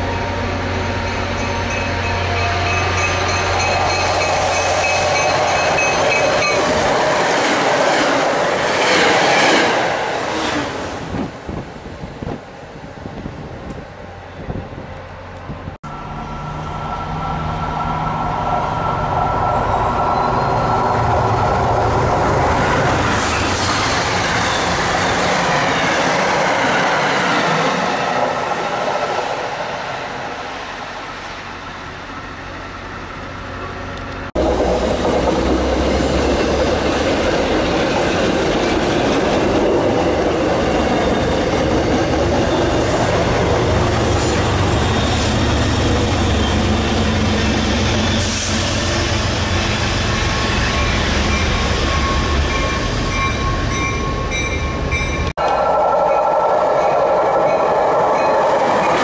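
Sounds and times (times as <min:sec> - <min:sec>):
train wheels on rail: 0:00.0 - 0:59.0.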